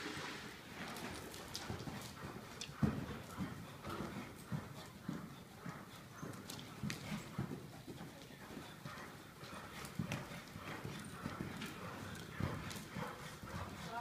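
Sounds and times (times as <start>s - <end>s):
horse trotting on sand: 0.0s - 14.0s.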